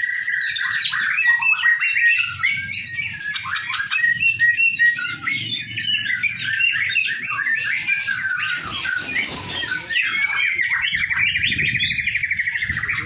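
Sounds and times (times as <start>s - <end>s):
birds singing chirps and whistles: 0.0s - 13.0s
low background murmur: 2.3s - 13.0s.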